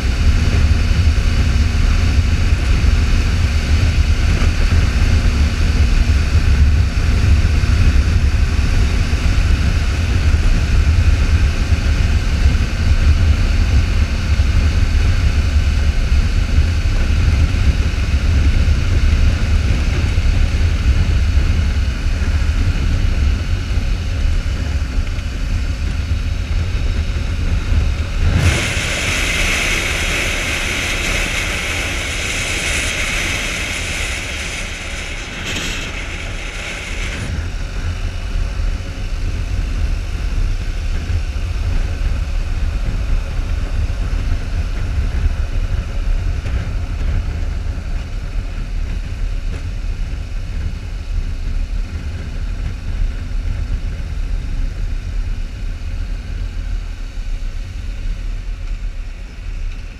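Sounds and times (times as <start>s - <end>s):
motorcycle engine: 0.0s - 59.9s
road rumble: 0.0s - 59.9s
wind rushing over microphone: 0.0s - 59.9s.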